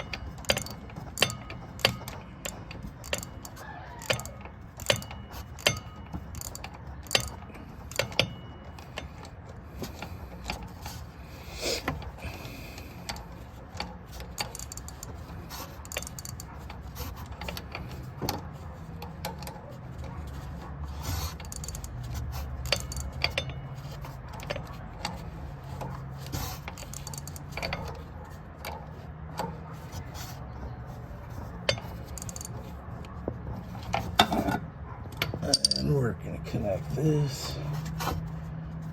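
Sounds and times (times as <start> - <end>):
metal tools clinking and tapping: 0.0 - 11.2, 11.9 - 38.3.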